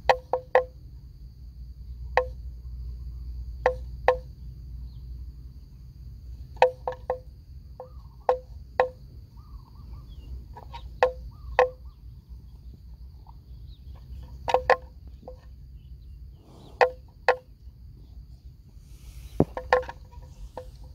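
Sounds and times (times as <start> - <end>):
high insect drone: 0.0 - 20.9.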